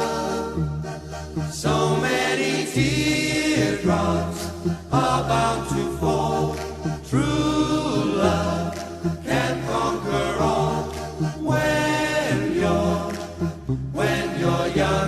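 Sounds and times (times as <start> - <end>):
slow pop song with vocals: 0.0 - 15.0.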